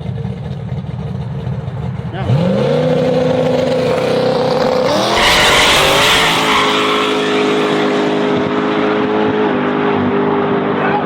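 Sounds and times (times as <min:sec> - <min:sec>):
pickup truck engine at full throttle: 0:00.0 - 0:11.0.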